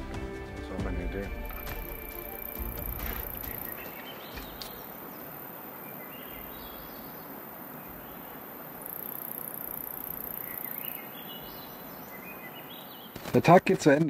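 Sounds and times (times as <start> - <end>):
crickets chirring: 1.1 - 13.8.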